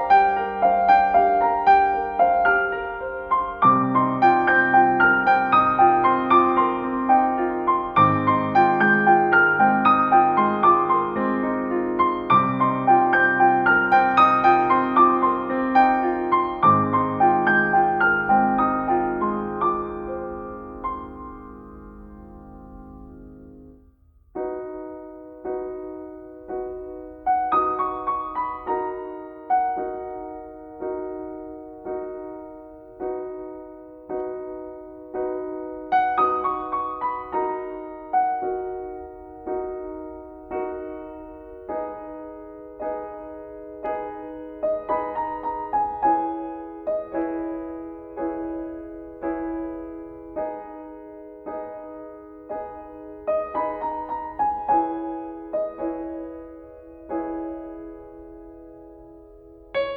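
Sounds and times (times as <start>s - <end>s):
slow gentle piano music: 0.0s - 59.9s.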